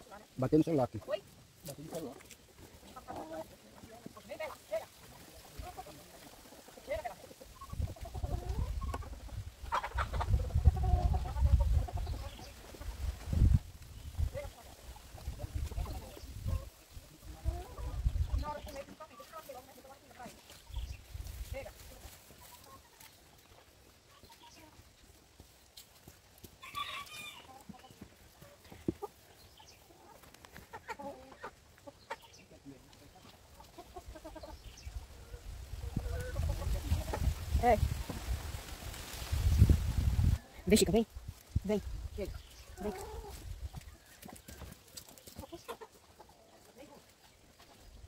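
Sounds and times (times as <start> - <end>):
chickens clucking: 0.0 - 48.0.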